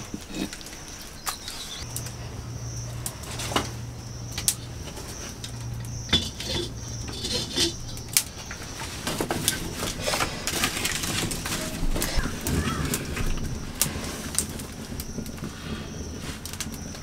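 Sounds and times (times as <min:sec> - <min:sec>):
firewood being handled: 0:00.0 - 0:17.0.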